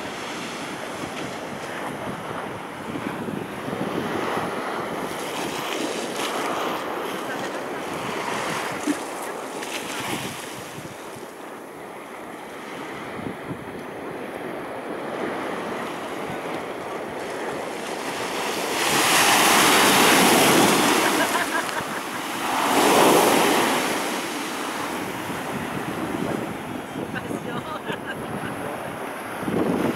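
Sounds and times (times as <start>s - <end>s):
wave breaking: 0.0s - 11.4s, 12.3s - 29.9s
surf washing against seawall: 0.0s - 29.9s.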